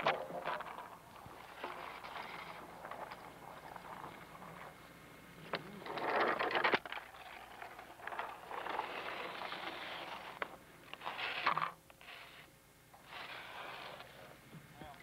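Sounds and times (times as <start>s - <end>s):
scraping and crackling on ice: 0.0s - 4.8s, 5.5s - 14.3s.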